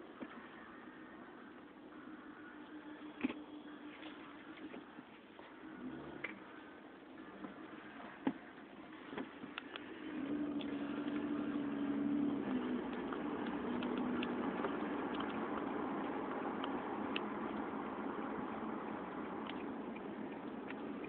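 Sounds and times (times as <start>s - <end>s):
car engine hum inside cabin: 0.0s - 21.0s
road noise: 0.0s - 21.0s.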